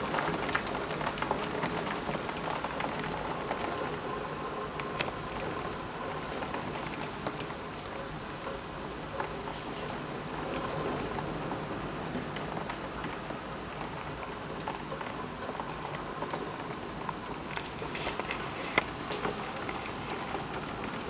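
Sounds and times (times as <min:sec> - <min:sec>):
hailstones ticking on hard surfaces: 0:00.0 - 0:21.0
heavy rain hissing: 0:00.0 - 0:21.0.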